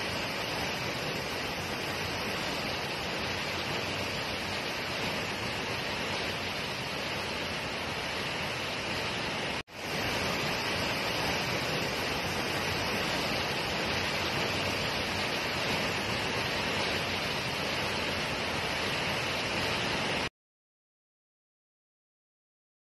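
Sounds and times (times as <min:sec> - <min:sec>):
waterfall rushing: 0:00.0 - 0:20.3.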